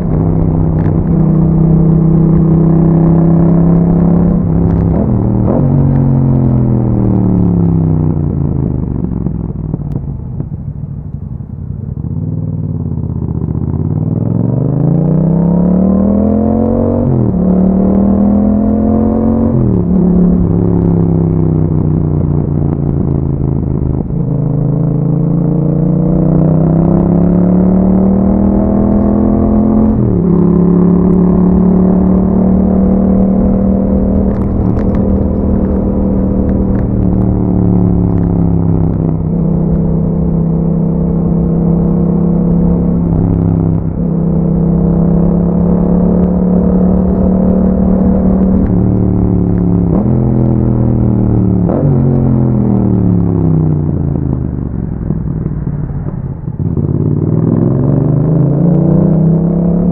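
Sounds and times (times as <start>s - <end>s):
motorcycle engine revving and shifting: 0.0s - 59.9s.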